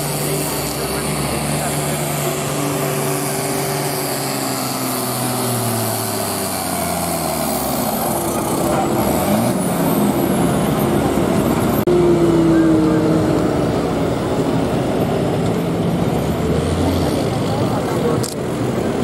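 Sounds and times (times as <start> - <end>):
diesel tractor engine under load: 0.0 - 19.0.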